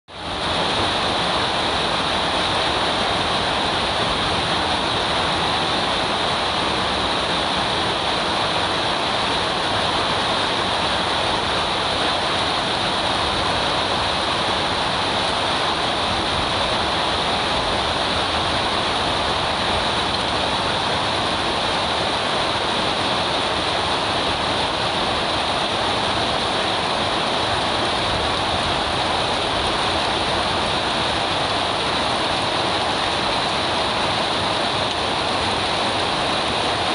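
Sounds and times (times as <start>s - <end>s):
flowing water rushing: 0.1s - 36.9s.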